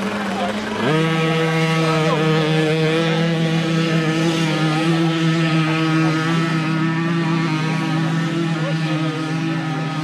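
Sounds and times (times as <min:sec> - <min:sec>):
moped engine at full throttle: 0:00.0 - 0:10.0
other moped engines: 0:00.0 - 0:10.0.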